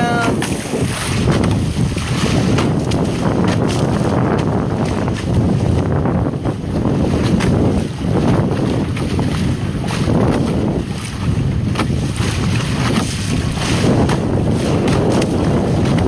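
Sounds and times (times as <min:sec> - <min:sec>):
water rushing along hull: 0:00.0 - 0:16.0
water splashing: 0:00.0 - 0:16.0
wind buffeting microphone: 0:00.0 - 0:16.0.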